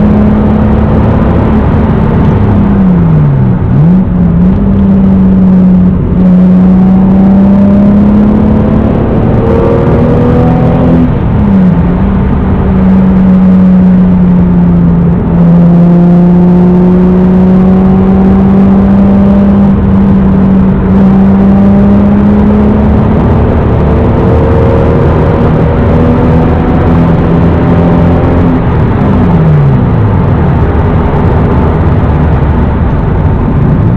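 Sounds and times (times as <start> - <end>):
car engine from inside cabin: 0.0 - 33.9.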